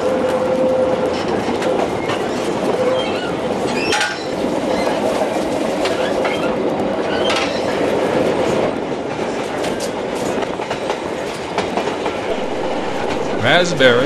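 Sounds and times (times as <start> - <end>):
wheels clicking over rail joints: 0.0 - 12.2
train wheels rumbling on rail: 0.0 - 14.0.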